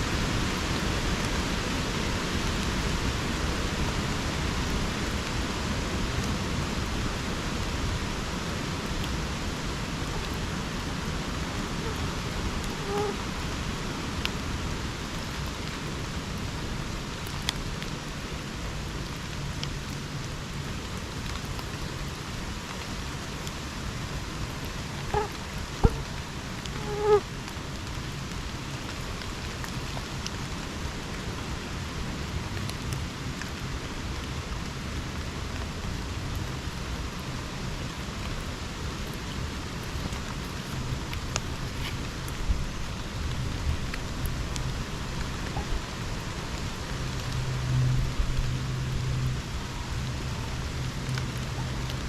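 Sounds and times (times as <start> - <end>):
steady rain falling: 0.0 - 52.0
close raindrops ticking: 0.1 - 52.0.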